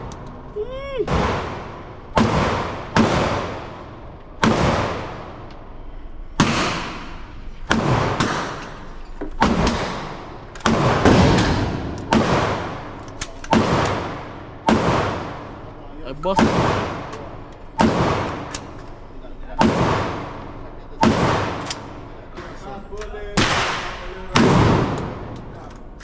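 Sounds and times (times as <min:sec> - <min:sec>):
gunshots echoing indoors: 0:00.0 - 0:22.6, 0:23.2 - 0:26.0.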